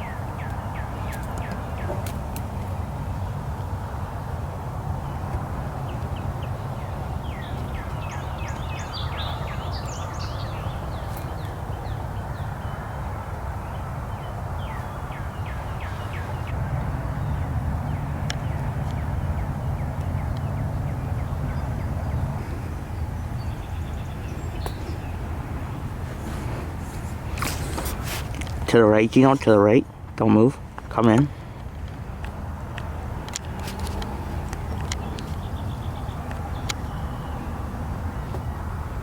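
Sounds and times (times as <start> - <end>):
wild birds chirping: 0.0 - 39.0.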